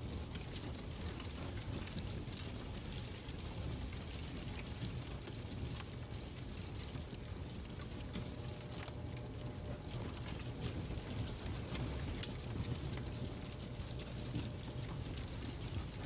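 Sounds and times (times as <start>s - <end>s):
burning logs rumble and hiss: 0.0s - 16.0s
fire pops and snaps: 0.1s - 16.0s.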